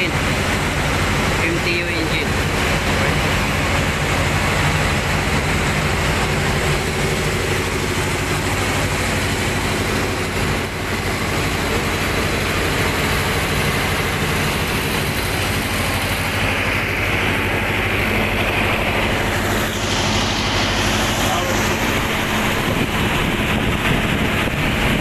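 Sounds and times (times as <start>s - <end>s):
diesel generator drone: 0.0s - 25.0s.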